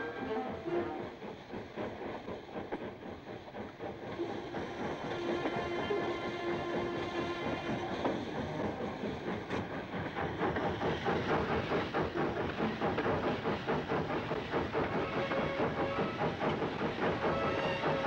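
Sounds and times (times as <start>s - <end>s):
locomotive chuff and clatter: 0.0s - 18.0s
steam hissing: 0.0s - 18.0s.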